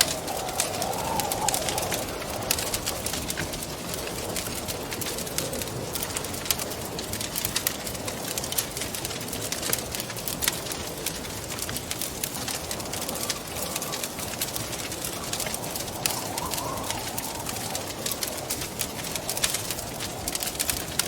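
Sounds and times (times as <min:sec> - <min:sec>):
rushing wind: 0:00.0 - 0:21.0
wood fire crackling and popping: 0:00.0 - 0:21.0.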